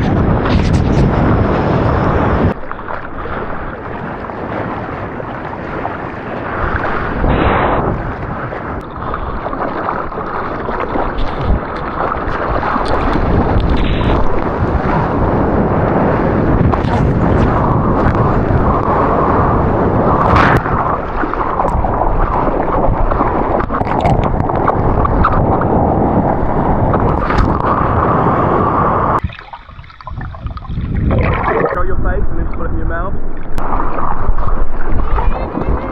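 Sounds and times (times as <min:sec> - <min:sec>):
rushing ocean water: 0:00.0 - 0:35.9
wind buffeting microphone: 0:00.0 - 0:35.9.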